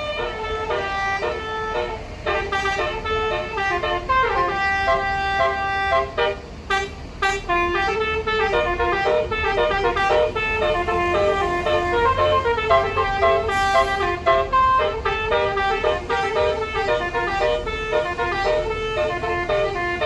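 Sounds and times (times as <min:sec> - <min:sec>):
bus horn playing a tune: 0:00.0 - 0:20.0
low engine rumble: 0:00.0 - 0:20.0.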